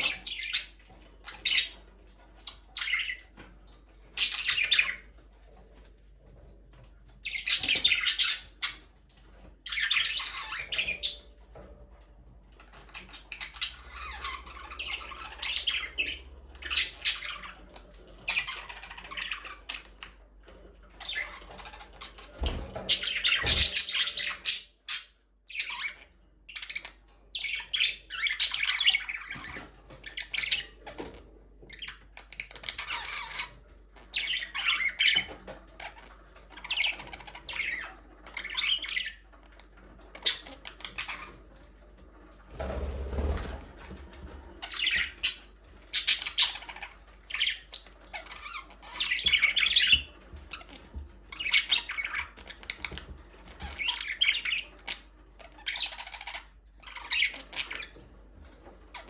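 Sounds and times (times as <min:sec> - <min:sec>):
budgerigars chattering and squawking: 0:00.0 - 0:05.2, 0:07.2 - 0:11.4, 0:12.5 - 0:41.8, 0:44.5 - 0:59.0.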